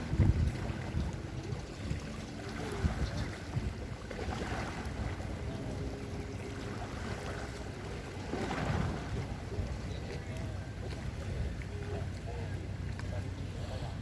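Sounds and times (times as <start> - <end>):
sea waves washing: 0.0 - 14.0
wind rumbling on microphone: 0.0 - 14.0.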